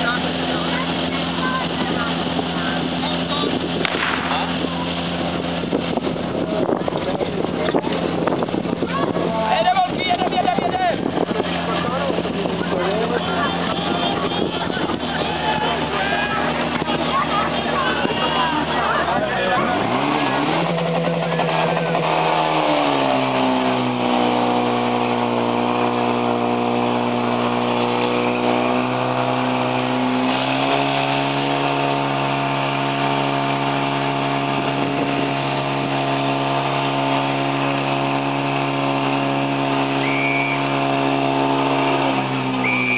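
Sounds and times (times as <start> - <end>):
pump engine running at high revs: 0.0 - 42.9.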